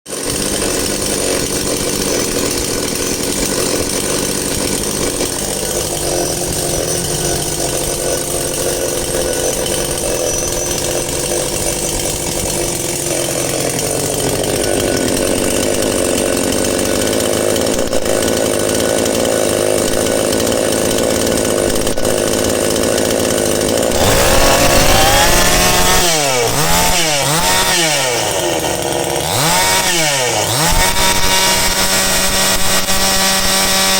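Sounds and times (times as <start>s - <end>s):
chainsaw engine revving: 0.1s - 33.9s.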